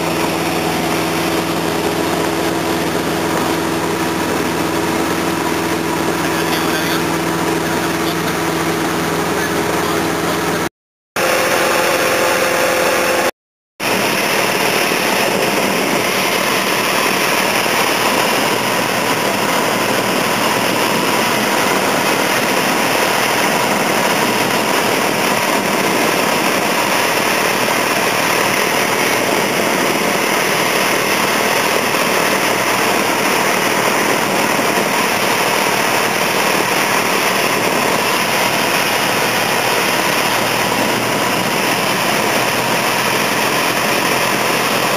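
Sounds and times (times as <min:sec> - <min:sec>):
light aircraft engine and propeller: 0:00.0 - 0:44.9.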